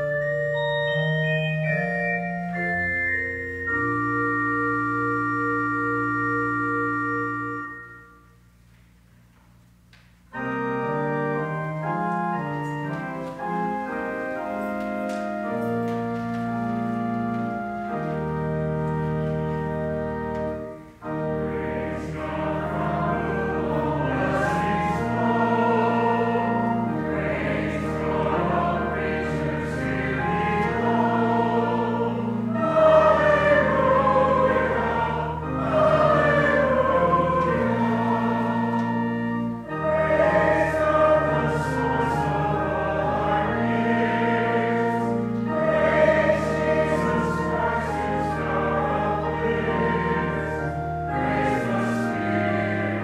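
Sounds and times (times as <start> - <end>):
pipe organ chords: 0.0 - 53.0
congregation singing a hymn: 10.4 - 53.0.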